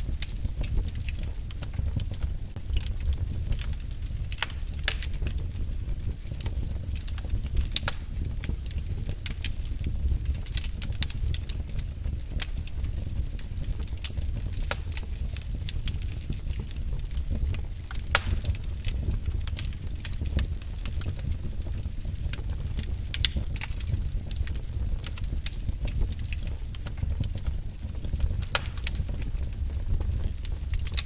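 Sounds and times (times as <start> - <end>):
fire crackles and pops: 0.0 - 31.0
low rumble of flames: 0.0 - 31.0.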